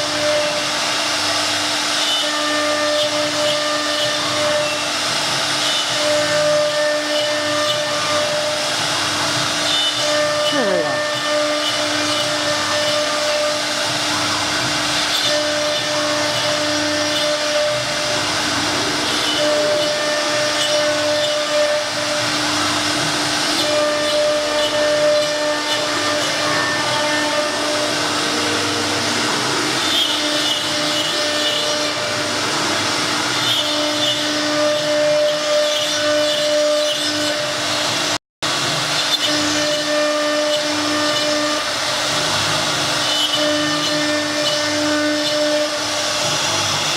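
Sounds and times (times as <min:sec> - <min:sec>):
router spindle whining: 0:00.0 - 0:46.9.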